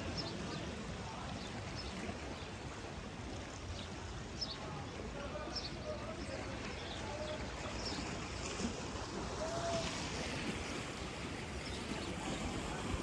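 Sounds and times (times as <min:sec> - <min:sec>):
lake water lapping at shore: 0:00.0 - 0:13.0.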